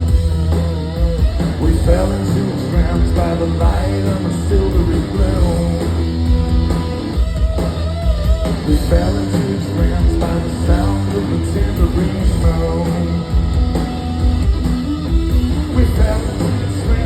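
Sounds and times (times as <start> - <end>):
bass and drums: 0.0 - 17.0
electric guitar: 0.0 - 17.0.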